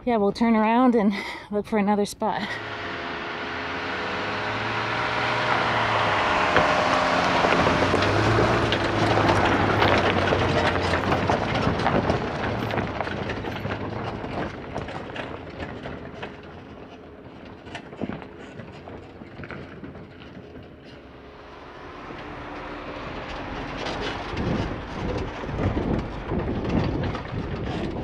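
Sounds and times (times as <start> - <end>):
engine running at low speed: 2.4 - 28.0
trailer rattling: 2.4 - 28.0
tyres crunching over stones: 3.4 - 28.0.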